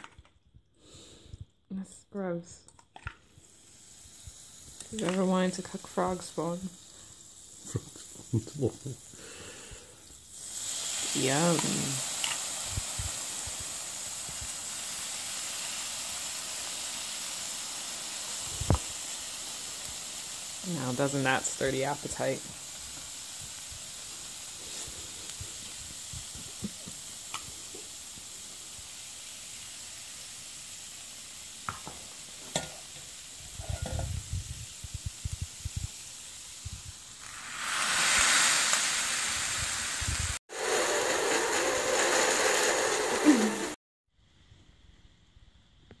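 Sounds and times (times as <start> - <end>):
sizzling hiss on hot plates: 3.2 - 43.8
loud steam hiss: 3.3 - 43.8.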